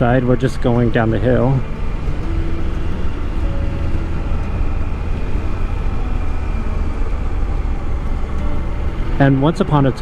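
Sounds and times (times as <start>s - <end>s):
faint motorcycle engine: 0.0s - 10.0s.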